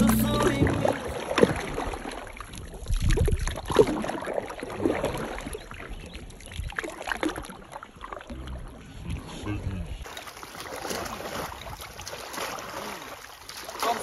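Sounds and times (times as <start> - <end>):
paddle splashing in river water: 0.0 - 9.4, 10.0 - 14.0.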